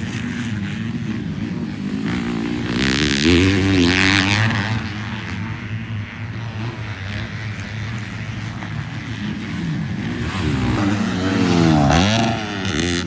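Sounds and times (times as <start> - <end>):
bike engine revving close by: 0.0 - 13.0
motocross bike engines racing: 0.0 - 13.0.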